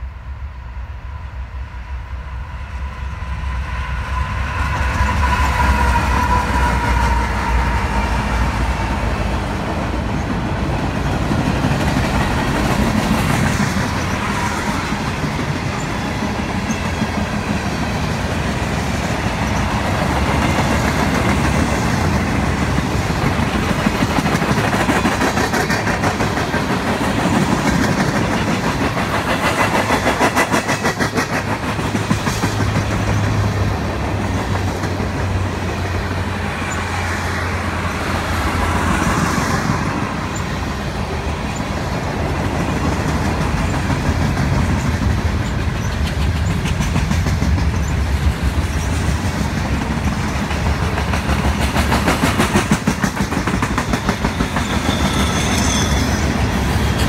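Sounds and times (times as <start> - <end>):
freight train wheels clacking: 2.9 - 57.0.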